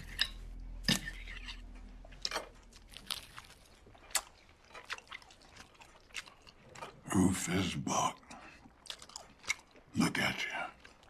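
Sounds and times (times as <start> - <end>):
man chewing: 0.0 - 7.1, 8.2 - 9.9, 10.7 - 11.0.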